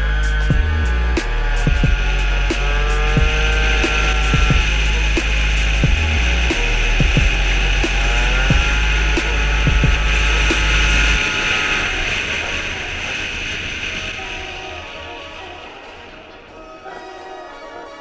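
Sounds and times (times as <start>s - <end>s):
scooter engine running: 0.0s - 15.0s.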